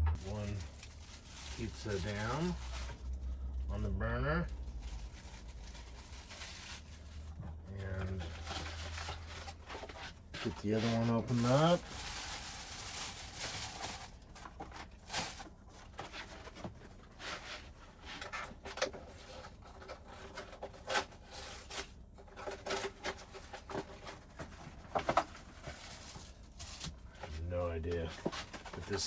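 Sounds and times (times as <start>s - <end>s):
plastic wrapper crinkling: 0.1s - 3.8s, 4.5s - 16.2s, 19.4s - 29.0s.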